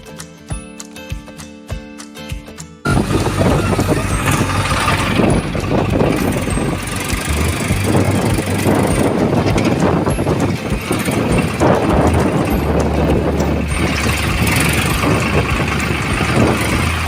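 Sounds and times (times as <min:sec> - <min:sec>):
diesel engine running: 0:02.9 - 0:17.0
rough mechanical clatter: 0:02.9 - 0:17.0.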